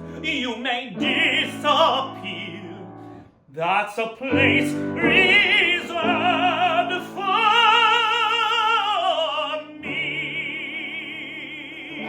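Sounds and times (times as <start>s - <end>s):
operatic tenor singing: 0.0s - 2.9s, 3.5s - 12.0s
piano accompaniment: 0.0s - 12.0s.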